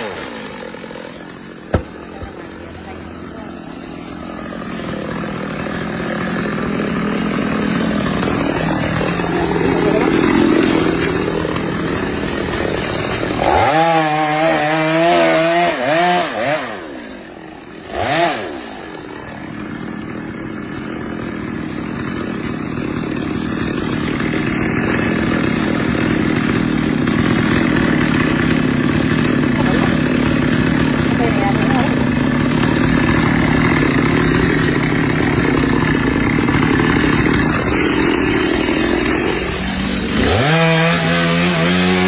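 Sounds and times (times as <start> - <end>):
chainsaw running: 0.0 - 42.0.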